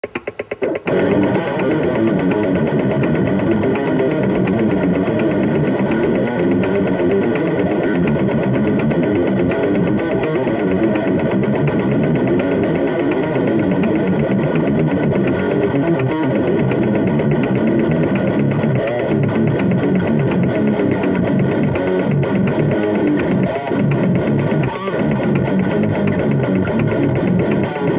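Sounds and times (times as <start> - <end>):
distorted electric guitar riff: 0.0 - 27.9.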